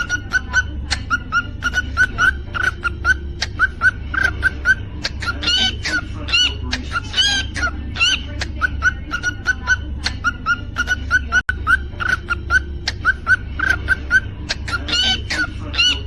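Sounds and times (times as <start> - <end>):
cockatiel chirping: 0.0 - 16.0
cockatiel whistled calls: 0.0 - 16.0.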